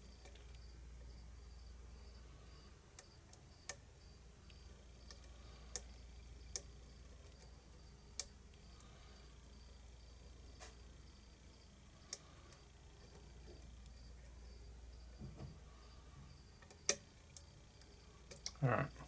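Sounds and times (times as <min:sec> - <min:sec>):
faint cricket chirping: 0:00.0 - 0:19.0.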